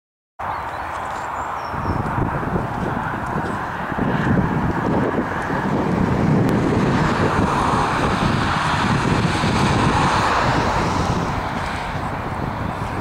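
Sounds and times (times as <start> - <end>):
wind buffeting microphone: 0.5 - 13.0.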